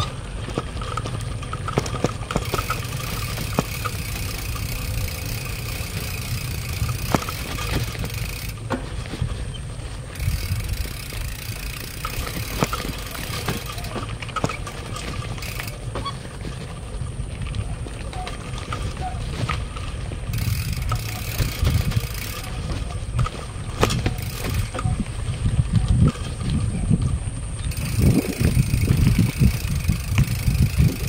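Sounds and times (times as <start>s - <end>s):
bicycle tyres rumbling on dirt: 0.0s - 31.0s
bike rattling and knocking: 0.0s - 31.0s.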